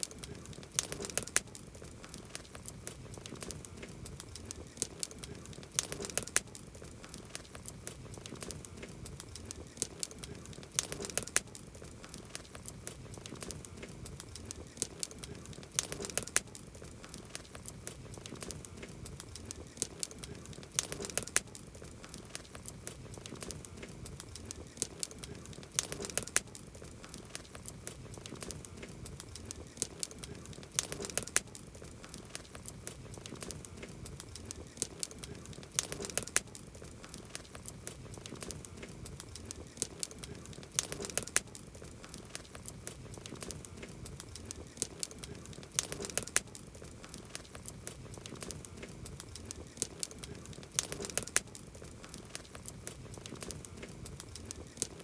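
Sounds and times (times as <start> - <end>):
campfire crackling and popping: 0.0 - 55.0
soft hiss: 0.0 - 55.0.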